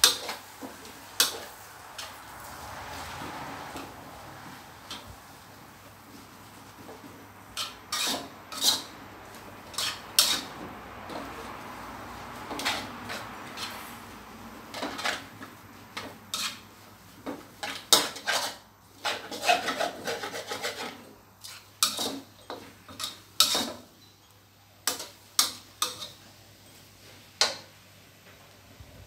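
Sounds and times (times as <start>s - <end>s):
spatula scraping a wok: 0.0s - 24.2s, 24.8s - 27.7s.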